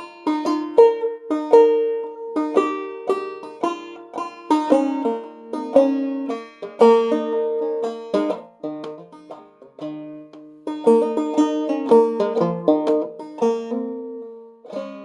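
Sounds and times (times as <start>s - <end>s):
banjo played solo: 0.0s - 15.0s.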